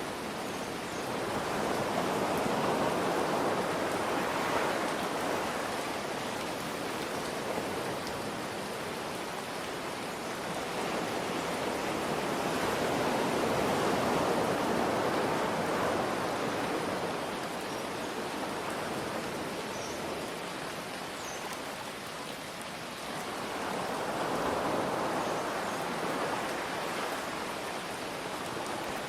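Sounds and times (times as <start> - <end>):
ocean waves: 0.0 - 29.0
steady rain: 0.0 - 29.0.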